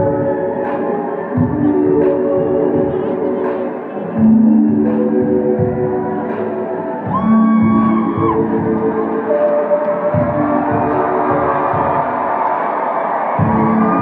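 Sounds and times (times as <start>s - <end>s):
live band ringing chords: 0.0s - 14.0s.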